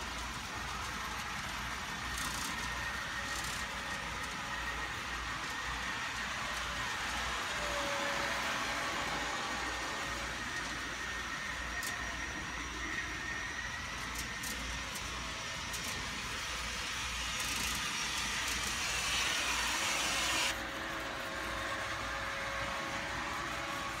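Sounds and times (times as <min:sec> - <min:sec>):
model train running: 0:00.0 - 0:24.0.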